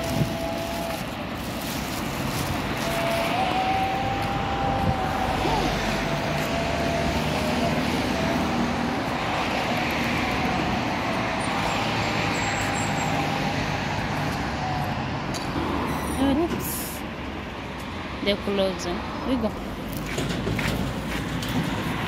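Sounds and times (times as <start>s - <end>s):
cars passing on street: 0.0s - 22.0s.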